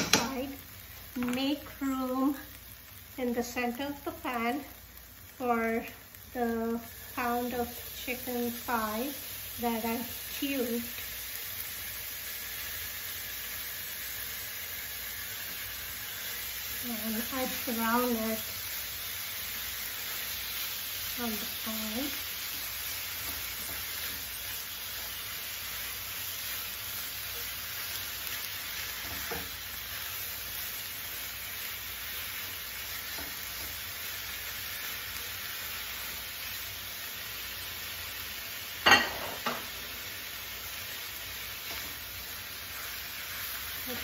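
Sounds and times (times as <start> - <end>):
chicken sizzling in a pan: 0.0 - 44.0.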